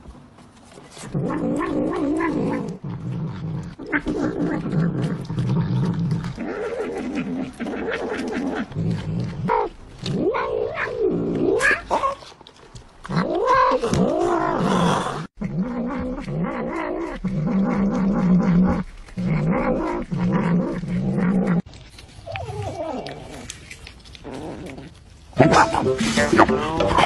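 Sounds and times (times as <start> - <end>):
cats growling: 0.9 - 12.4, 13.0 - 27.0.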